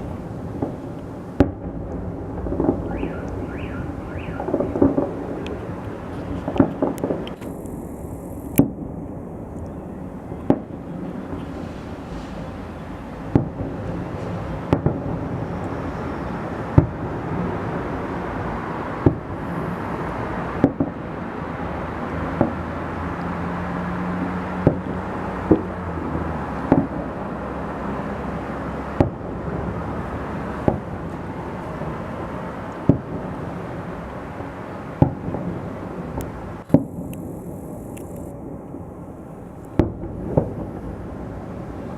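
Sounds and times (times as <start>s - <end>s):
fireworks bangs: 0.0s - 23.0s, 24.2s - 25.8s, 26.5s - 27.3s, 28.0s - 41.9s
outdoor background noise: 0.0s - 41.9s.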